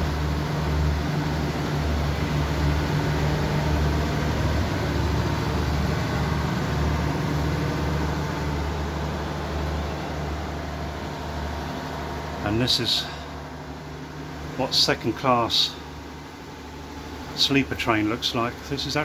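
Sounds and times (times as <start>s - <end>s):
train machinery humming: 0.0s - 19.0s.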